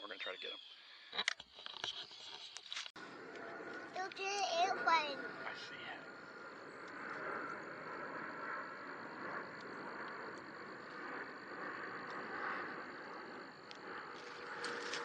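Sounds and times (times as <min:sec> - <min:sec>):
airplane passing overhead: 0:03.0 - 0:15.0.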